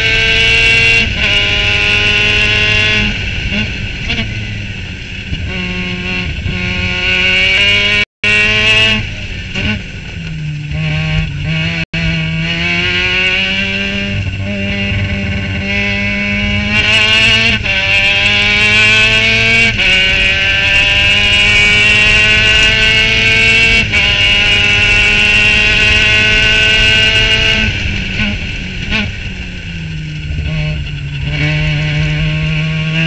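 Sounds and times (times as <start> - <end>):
race car engine at full throttle: 0.0 - 33.0.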